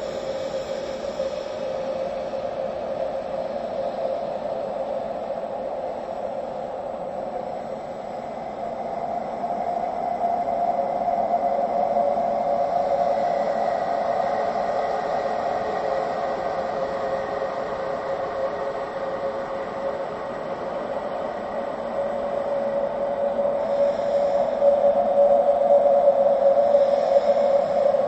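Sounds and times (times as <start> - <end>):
faint high steady tone: 0.0 - 28.0.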